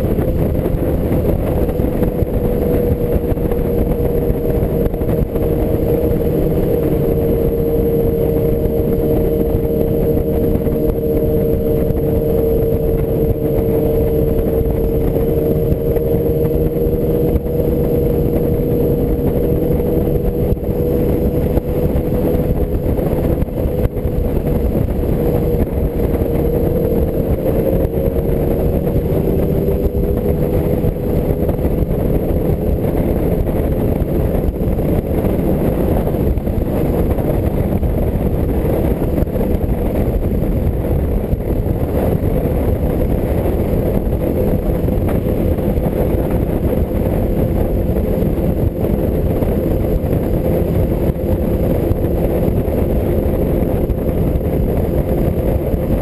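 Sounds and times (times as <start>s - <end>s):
motorcycle engine cruising: 0.0s - 56.0s
wind and road rush: 0.0s - 56.0s.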